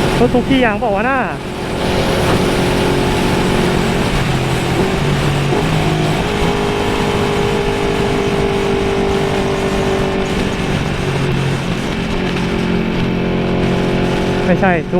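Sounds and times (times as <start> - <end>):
motorcycle engine running: 0.0 - 14.9
steady rush of noise: 0.0 - 14.9.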